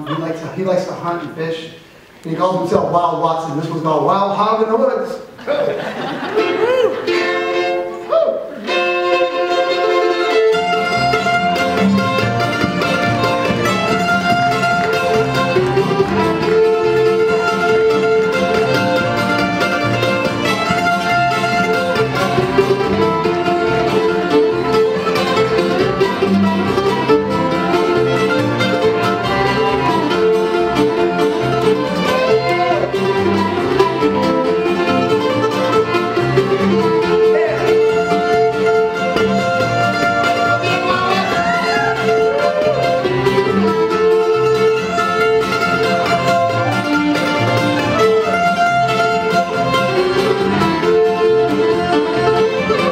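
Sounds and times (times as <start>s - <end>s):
string band playing a fiddle tune: 0.0s - 52.9s.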